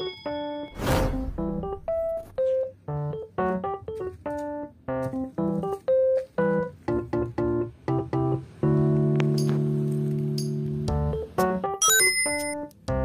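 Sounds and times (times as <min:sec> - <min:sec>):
light keyboard melody: 0:00.0 - 0:13.0.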